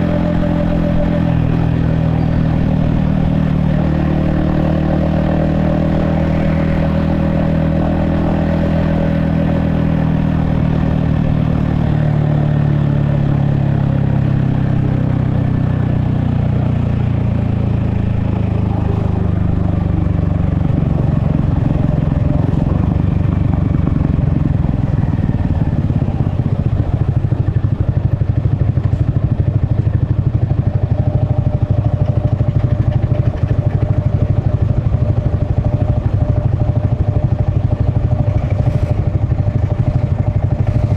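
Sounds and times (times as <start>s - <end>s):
motorcycle engine winding down: 0.0s - 40.9s.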